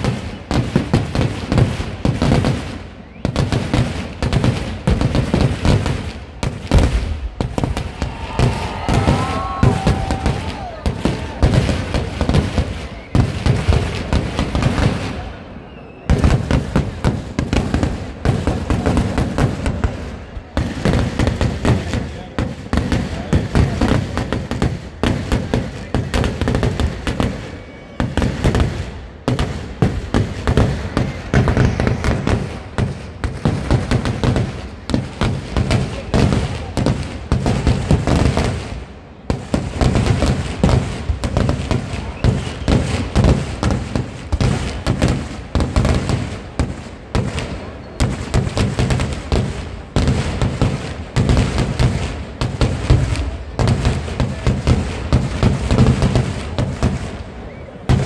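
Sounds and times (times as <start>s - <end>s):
fireworks banging rapidly: 0.0s - 15.4s, 16.0s - 58.0s.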